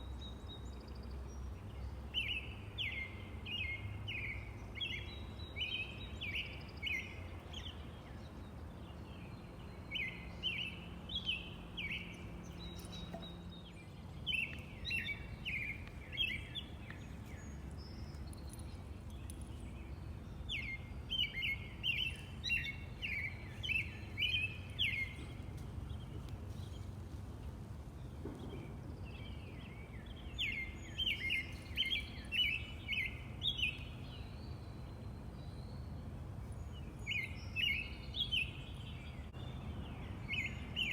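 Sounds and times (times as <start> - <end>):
robin singing: 0.0 - 27.0, 28.0 - 40.9.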